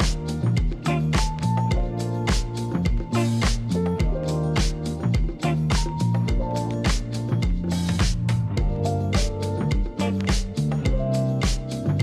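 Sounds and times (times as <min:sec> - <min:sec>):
bass: 0:00.0 - 0:12.0
drums: 0:00.0 - 0:12.0
guitar: 0:00.0 - 0:12.0.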